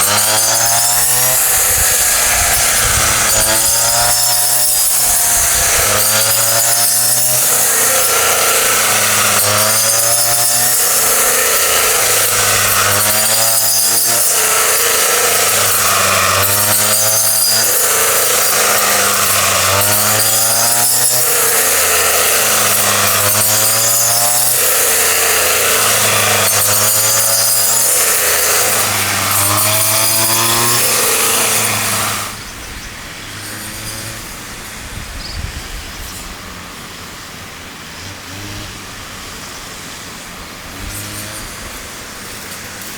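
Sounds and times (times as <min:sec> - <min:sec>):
rice threshing machine running: 0:00.0 - 0:42.9.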